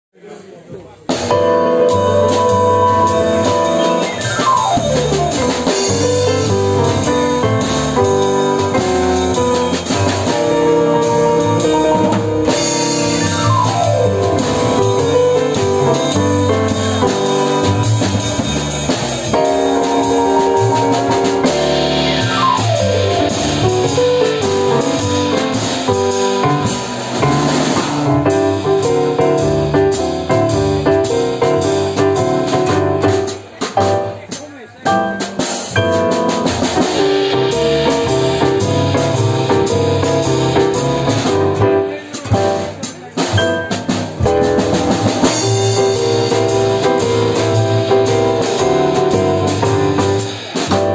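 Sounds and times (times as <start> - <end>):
jazz piano trio playing: 0.6 - 50.9.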